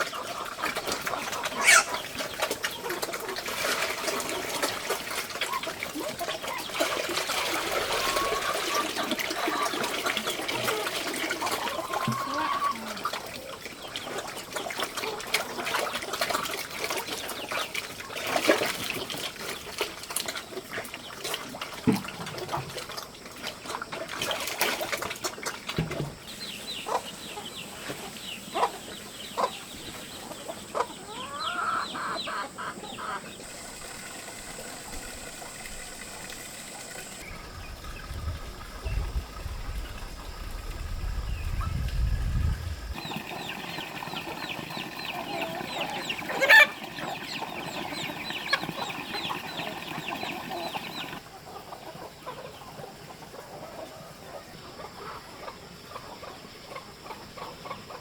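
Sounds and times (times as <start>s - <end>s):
water splashing and trickling: 0.0s - 27.4s, 31.9s - 51.3s
chickens clucking: 0.0s - 58.0s.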